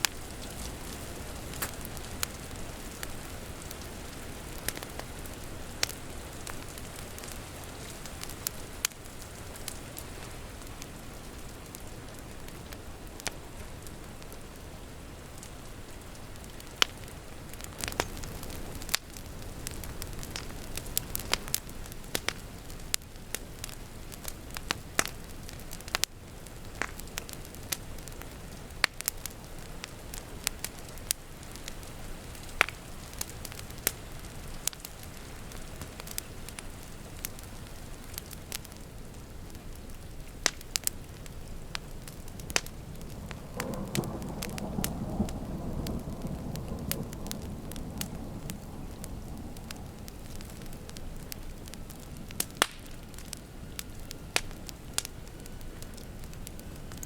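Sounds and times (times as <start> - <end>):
rain falling outside: 0.0 - 57.0
wood fire crackling and popping: 0.0 - 57.0.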